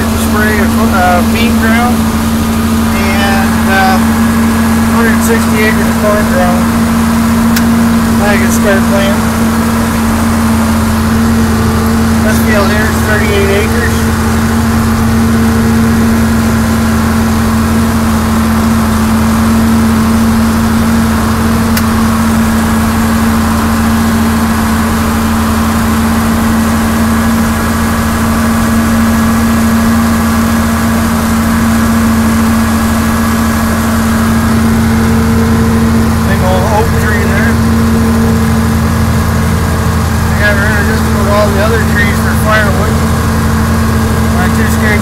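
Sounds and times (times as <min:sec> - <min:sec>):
tractor diesel engine droning: 0:00.0 - 0:45.0.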